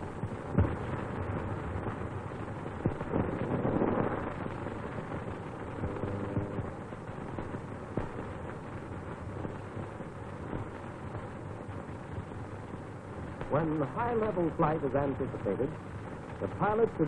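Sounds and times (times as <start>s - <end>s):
crackles and pops: 0.0s - 17.0s
film soundtrack rumble and hiss: 0.0s - 17.0s.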